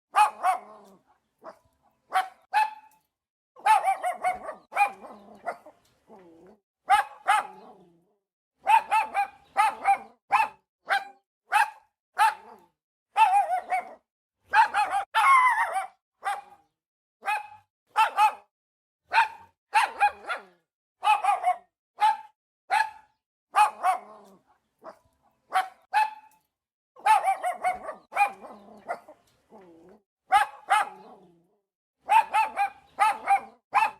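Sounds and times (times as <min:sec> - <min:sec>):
small dog barking: 0:00.1 - 0:08.0, 0:08.6 - 0:18.5, 0:19.1 - 0:26.4, 0:27.0 - 0:29.7, 0:30.3 - 0:31.4, 0:32.0 - 0:33.9.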